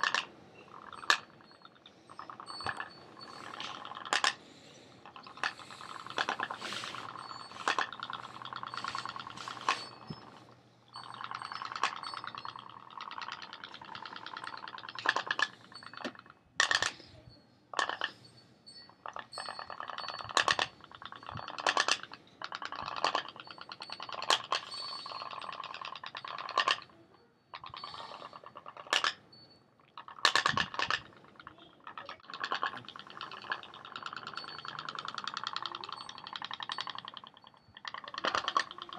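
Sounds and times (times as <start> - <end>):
toy steam boat engine popping: 0.0 - 17.1, 17.7 - 38.9.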